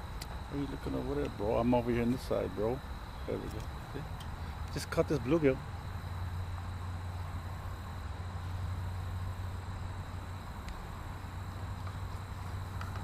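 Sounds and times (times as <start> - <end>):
distant road traffic hum: 0.0 - 13.0
outdoor background hiss: 0.0 - 13.0.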